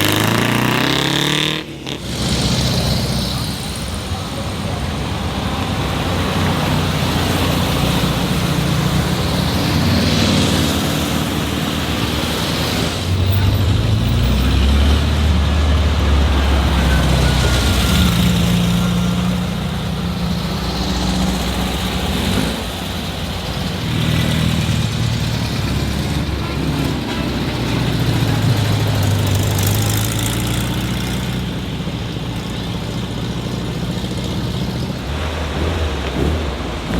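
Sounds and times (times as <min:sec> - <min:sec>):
car engines passing: 0:00.0 - 0:36.9
road noise: 0:00.0 - 0:36.9.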